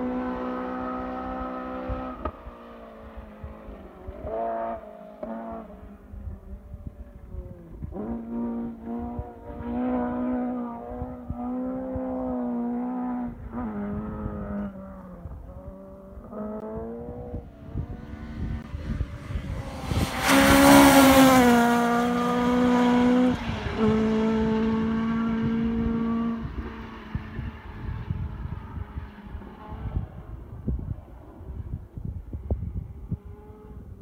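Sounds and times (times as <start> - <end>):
rally car engine at full throttle: 0.0 - 34.0.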